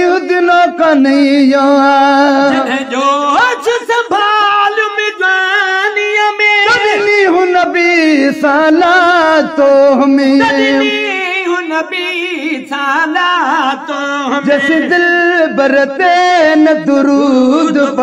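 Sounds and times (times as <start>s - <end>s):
men singing long notes: 0.0s - 18.0s.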